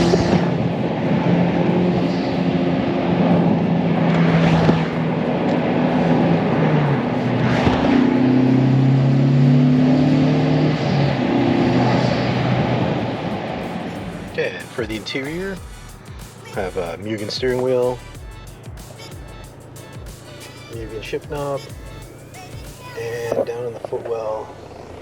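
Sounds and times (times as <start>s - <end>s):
car engine through exhaust: 0.0s - 25.0s.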